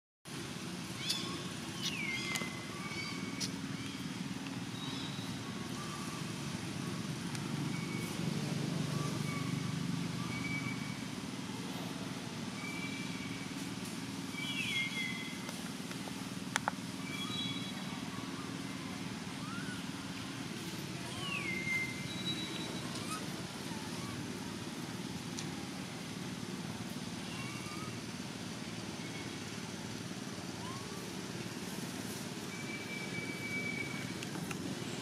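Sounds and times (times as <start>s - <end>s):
low rumble of distant engine: 0.3s - 35.0s.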